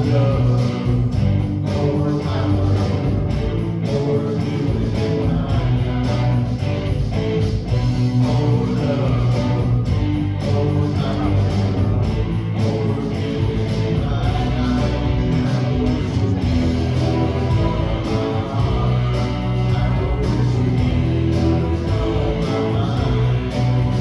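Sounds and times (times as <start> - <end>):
guitar: 0.0 - 24.0
worship band playing: 0.0 - 24.0.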